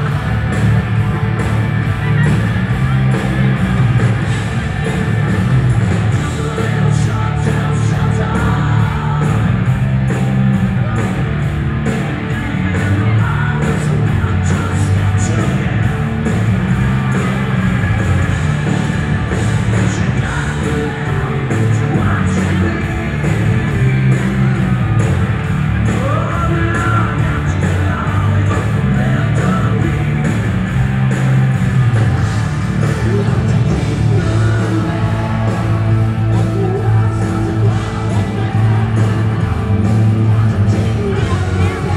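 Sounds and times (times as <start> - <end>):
lead singer: 0.0 - 17.6, 18.6 - 31.4, 32.2 - 41.9
bass guitar: 0.0 - 41.9
drums and cymbal hits: 0.0 - 41.9
electric guitars: 0.0 - 41.9
keyboards: 0.0 - 41.9.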